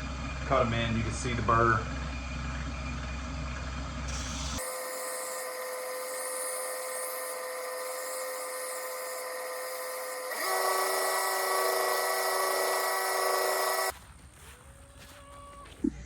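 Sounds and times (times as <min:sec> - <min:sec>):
belt sander whine: 0:00.0 - 0:14.0.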